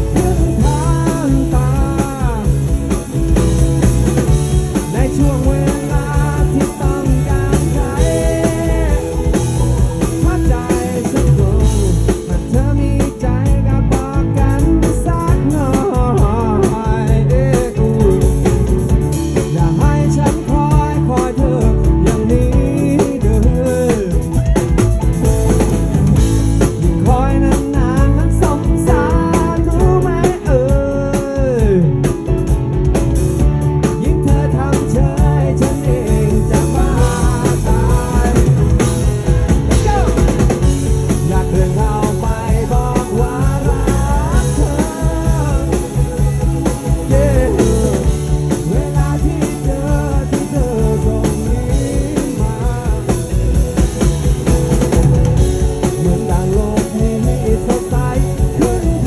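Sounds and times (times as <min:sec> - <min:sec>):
men singing: 0:00.0 - 0:03.3, 0:04.2 - 0:24.4, 0:26.8 - 0:32.0, 0:33.8 - 0:54.2, 0:55.8 - 0:59.0
electric guitars: 0:00.0 - 0:59.0
steady drum beat: 0:00.0 - 0:59.0.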